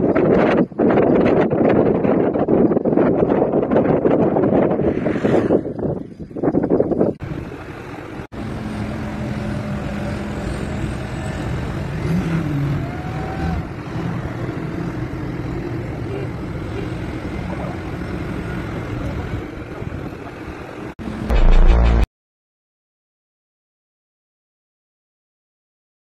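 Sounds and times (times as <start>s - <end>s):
engines rumbling: 0.0s - 22.1s.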